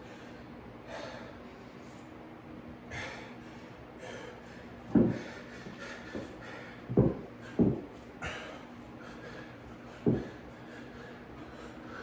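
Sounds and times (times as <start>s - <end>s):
man breathing hard: 0.0s - 1.9s, 2.9s - 12.0s.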